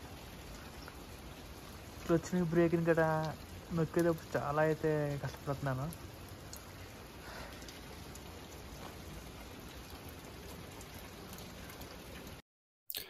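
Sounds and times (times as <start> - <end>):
steady rain falling: 0.0 - 12.4.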